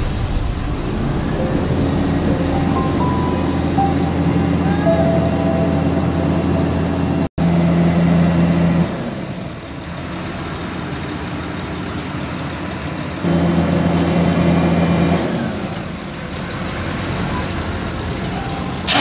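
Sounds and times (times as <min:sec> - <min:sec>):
diesel machinery engine hum: 0:00.0 - 0:19.0.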